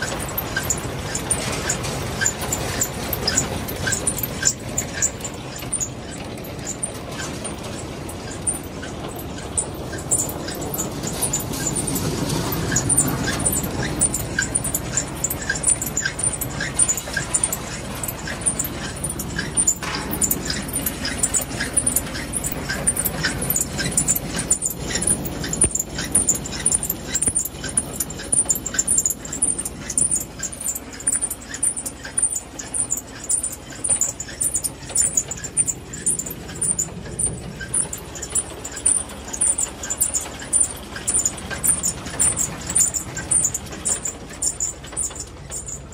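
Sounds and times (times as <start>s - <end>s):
harvester mechanical rumble: 0.0s - 45.9s
short high squeaks: 0.0s - 45.9s.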